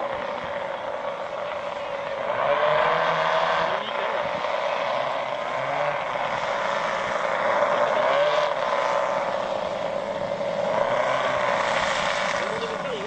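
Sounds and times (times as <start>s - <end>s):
model plane engines droning: 0.0s - 13.0s.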